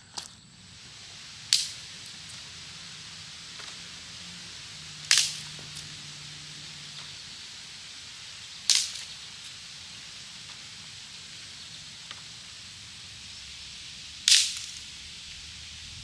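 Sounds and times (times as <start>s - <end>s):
sharp cracks: 0.0s - 15.8s
faint hiss: 0.0s - 16.0s.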